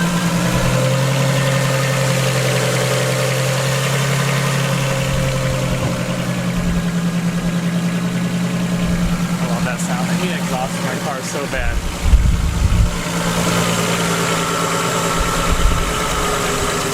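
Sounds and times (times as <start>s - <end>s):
engine idling with loud exhaust: 0.0s - 16.9s.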